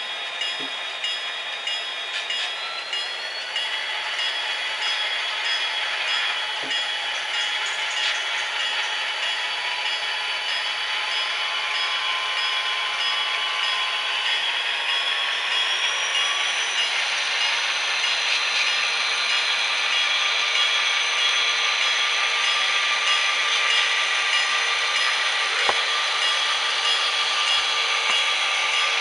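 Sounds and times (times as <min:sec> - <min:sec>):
model locomotive engine sound: 0:00.0 - 0:29.0.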